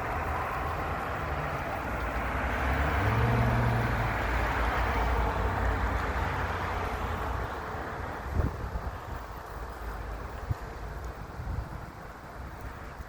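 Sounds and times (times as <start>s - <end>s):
road traffic passing: 0.0s - 13.0s
wind rumbling on microphone: 0.0s - 13.0s.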